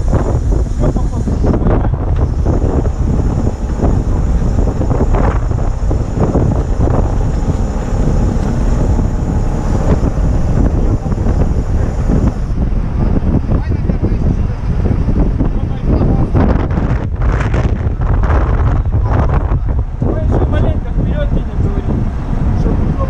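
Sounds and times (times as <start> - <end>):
gusting wind on microphone: 0.0 - 23.0.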